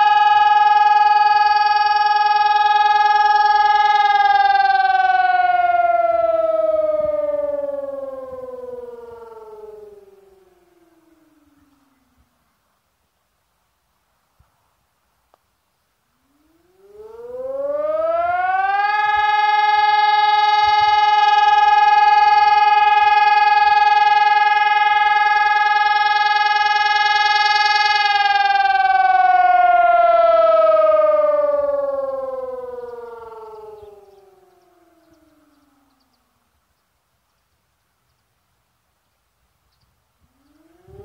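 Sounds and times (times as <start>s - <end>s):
siren rising and falling: 0.0s - 12.5s, 16.2s - 36.6s, 40.2s - 41.0s.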